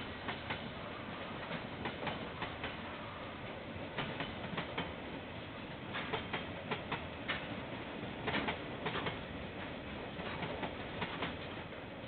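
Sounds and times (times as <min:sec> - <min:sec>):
train wheels clicking over rail joints: 0:00.0 - 0:11.8
train rushing noise: 0:00.0 - 0:12.0.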